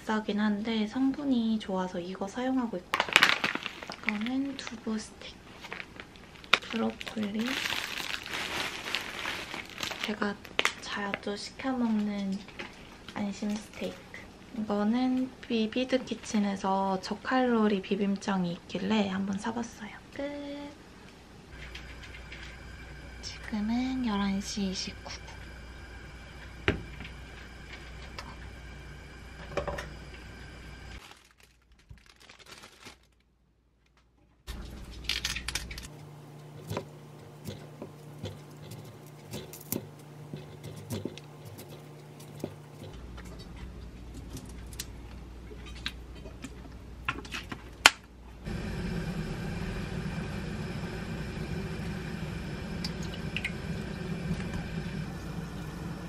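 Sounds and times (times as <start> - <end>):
steady low hum: 3.9 - 31.0, 34.5 - 56.0.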